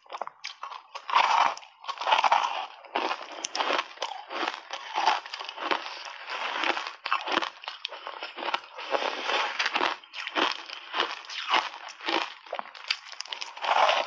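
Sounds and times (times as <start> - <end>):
ice crunching between teeth: 0.0 - 14.0.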